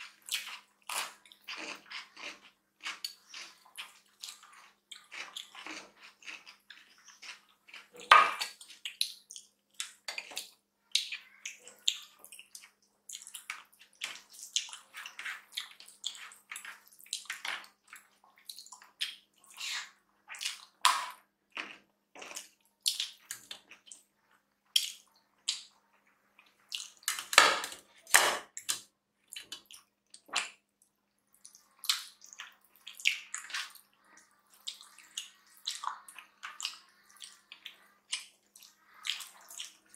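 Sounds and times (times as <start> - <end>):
chewing and lip smacks: 0.0 - 27.3, 28.7 - 39.9.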